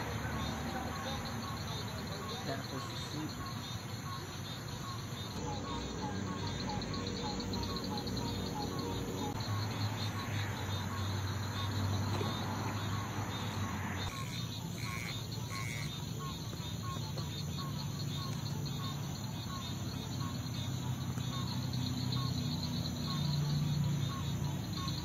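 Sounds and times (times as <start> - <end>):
crickets chirping: 0.0 - 25.0
short higher insect calls: 0.0 - 25.0.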